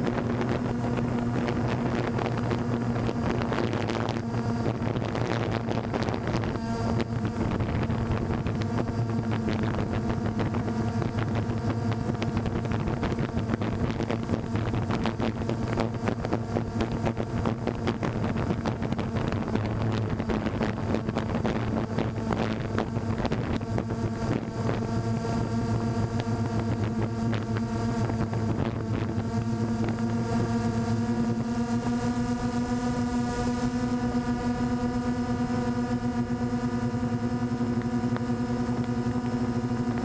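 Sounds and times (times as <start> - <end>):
wind buffeting microphone: 0.0 - 33.4
drone propellers buzzing: 0.0 - 40.0.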